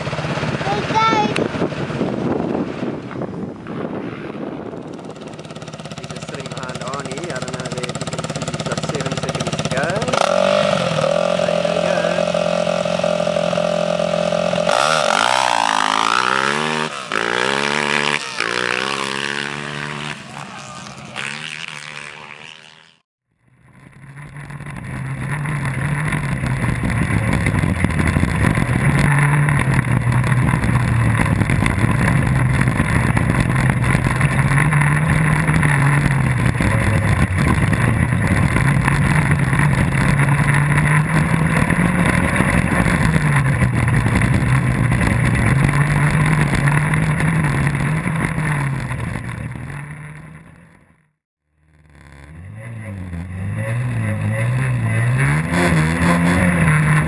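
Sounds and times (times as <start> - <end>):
quad bike engine revving: 0.0 - 2.6, 4.3 - 57.0
off-road buggy engine droning: 0.0 - 57.0.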